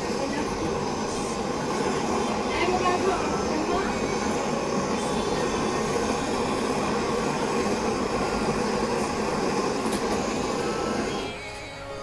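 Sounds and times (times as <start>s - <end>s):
soldering torch burning: 0.0s - 12.0s.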